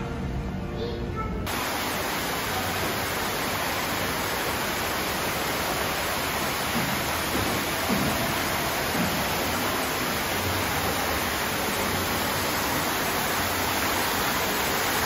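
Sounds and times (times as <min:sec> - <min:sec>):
falling water rushing: 0:01.5 - 0:15.0.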